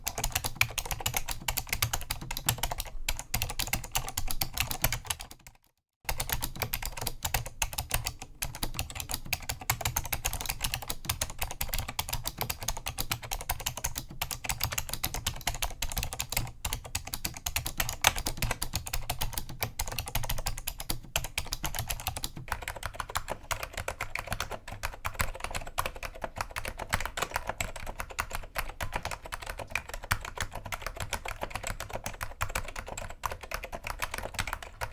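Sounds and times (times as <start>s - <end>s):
keyboard typing clacks: 0.0s - 34.9s.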